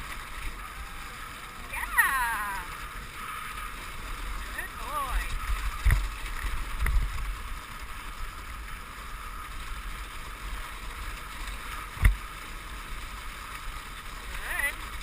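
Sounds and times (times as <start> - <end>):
sled runners hissing over snow: 0.0 - 15.0.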